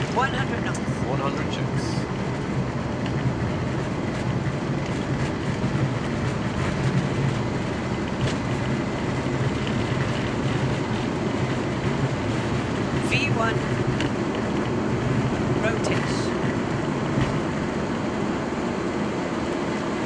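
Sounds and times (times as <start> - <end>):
constant low hum: 0.0 - 20.0
jet engine and airflow noise: 0.0 - 20.0.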